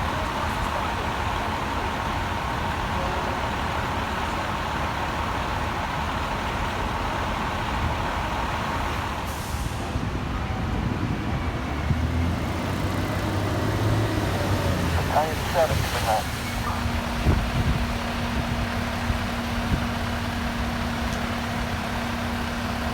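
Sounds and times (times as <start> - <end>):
diesel engines running: 0.0 - 22.9.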